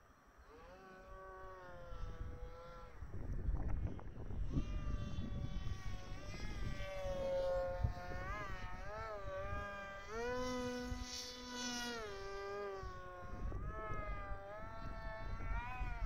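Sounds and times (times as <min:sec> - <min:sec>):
model plane electric motor whining: 0:00.0 - 0:16.0.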